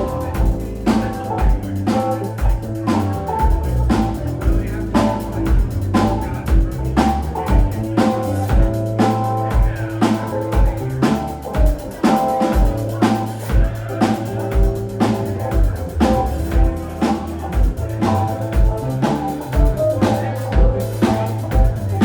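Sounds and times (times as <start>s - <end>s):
bass drum thumps: 0.0s - 22.0s
live rock band playing: 0.0s - 22.0s.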